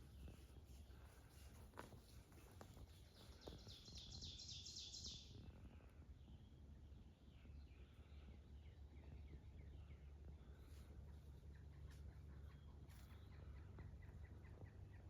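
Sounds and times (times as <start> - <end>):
low background rumble: 0.0 - 15.0
birds chirping: 2.8 - 15.0.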